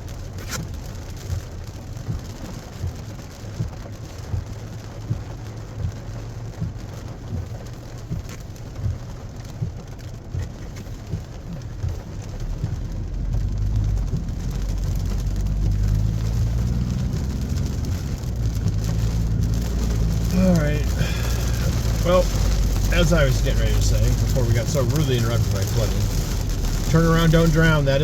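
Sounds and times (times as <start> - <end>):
heavy rain pattering: 0.0 - 28.0
vehicle engine and road noise: 0.0 - 28.0.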